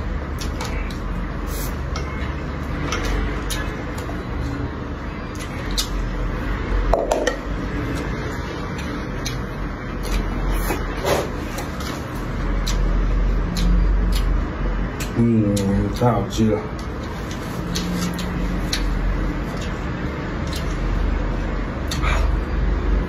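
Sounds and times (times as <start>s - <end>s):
chewing and mouth noises: 0.0s - 6.2s, 7.7s - 22.5s.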